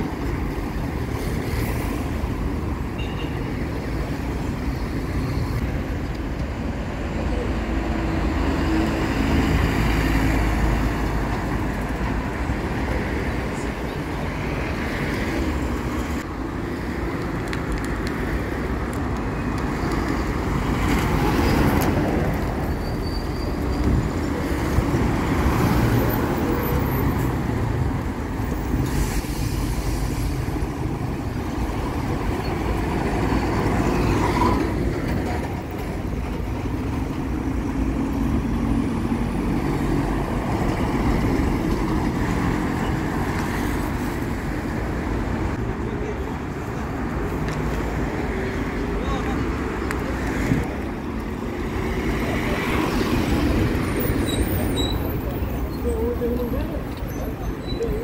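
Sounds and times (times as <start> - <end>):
street traffic passing: 0.0 - 58.0.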